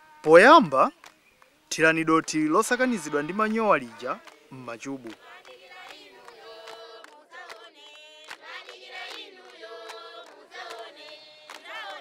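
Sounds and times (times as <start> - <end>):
high voices singing in chorus: 1.8 - 12.0.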